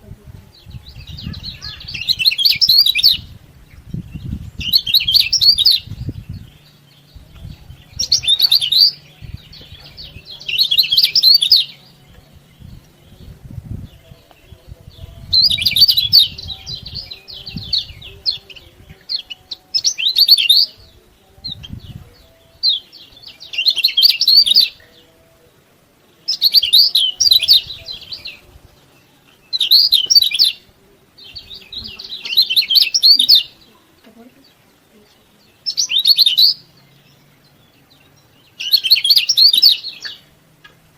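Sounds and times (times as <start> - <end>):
bird twittering chirps: 0.5 - 25.3, 26.2 - 40.9.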